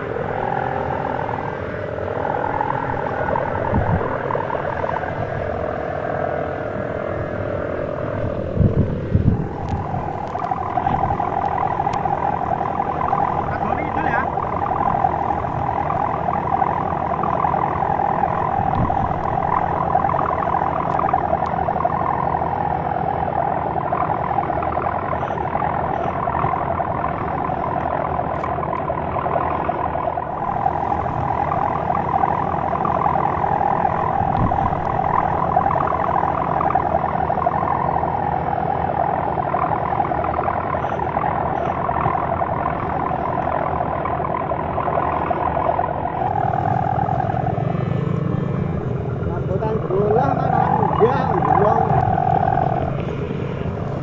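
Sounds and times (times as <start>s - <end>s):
kite hummer droning in wind: 0.0s - 54.0s.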